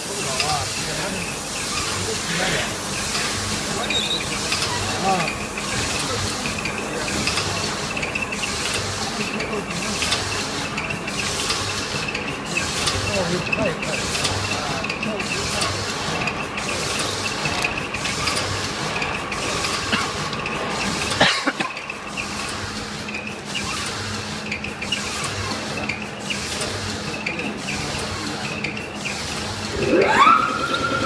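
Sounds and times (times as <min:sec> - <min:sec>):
packing machine ratcheting: 0:00.2 - 0:30.1.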